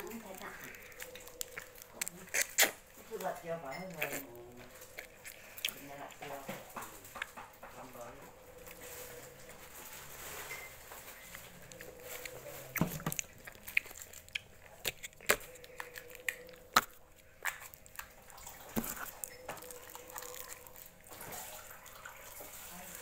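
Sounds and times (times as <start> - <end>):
wet mouth sounds eating: 0.0 - 6.3, 10.5 - 23.0.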